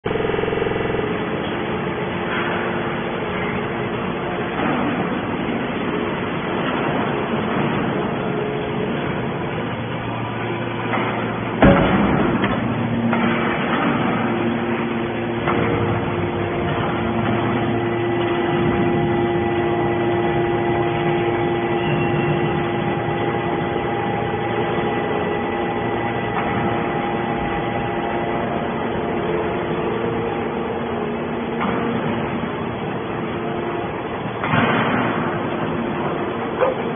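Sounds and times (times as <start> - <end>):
hydraulic press humming and whining: 0.1 - 36.9.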